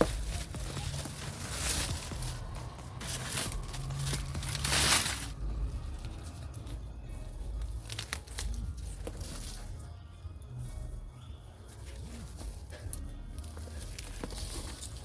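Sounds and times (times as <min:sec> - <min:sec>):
sacks and soil rustling: 0:00.0 - 0:09.9, 0:10.6 - 0:15.0.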